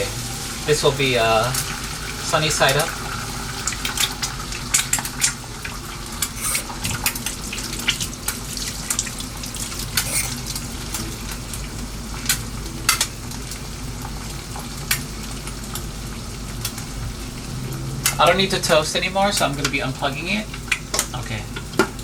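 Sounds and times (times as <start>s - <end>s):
egg sizzling in a pan: 0.0s - 22.0s.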